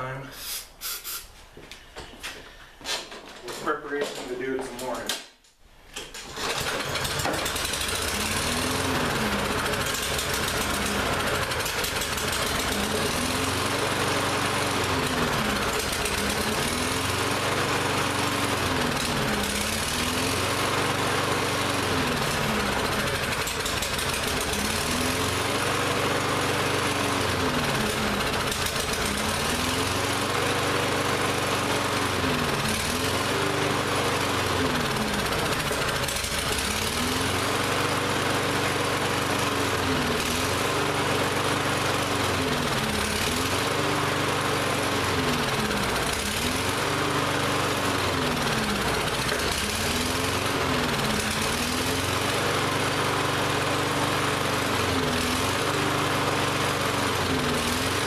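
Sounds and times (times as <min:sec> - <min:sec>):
lawn mower engine surging: 0:06.0 - 0:58.0.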